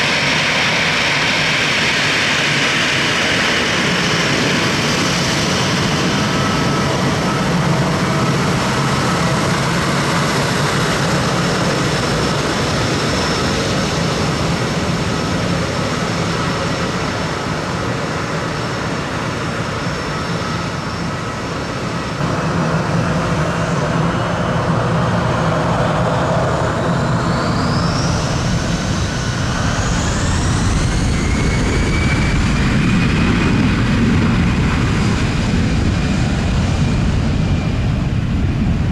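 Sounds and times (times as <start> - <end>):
high engine whines: 0.0 - 38.9
jet engines roaring: 0.0 - 38.9.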